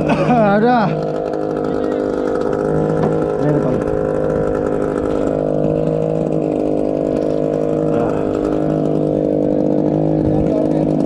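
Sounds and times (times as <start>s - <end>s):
boat engine running steadily: 0.0s - 11.0s.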